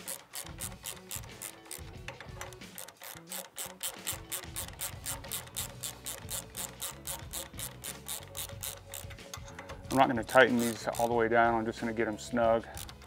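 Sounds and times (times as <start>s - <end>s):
hand ratchet clicking: 0.0s - 11.6s, 12.6s - 13.0s.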